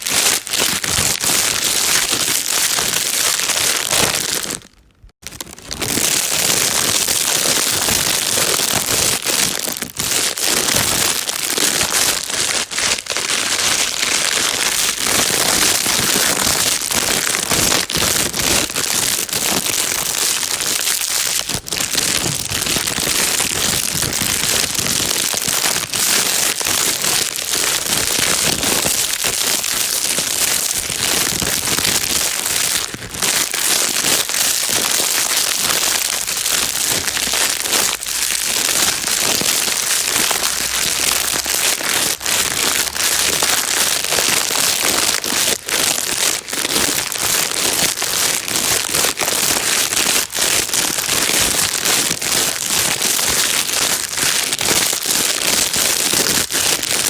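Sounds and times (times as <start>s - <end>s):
plastic bag crinkling: 0.0s - 57.0s.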